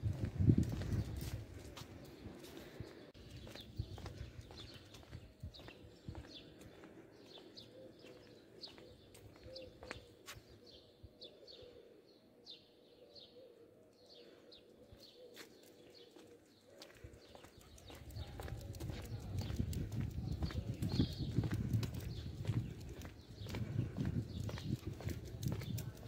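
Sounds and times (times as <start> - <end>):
small birds chirping: 0.4 - 26.0.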